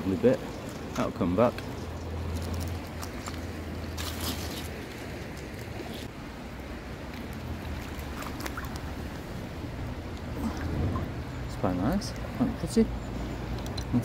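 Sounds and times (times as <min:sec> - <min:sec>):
river water rushing: 0:00.0 - 0:14.0
wind rumbling on microphone: 0:00.0 - 0:14.0.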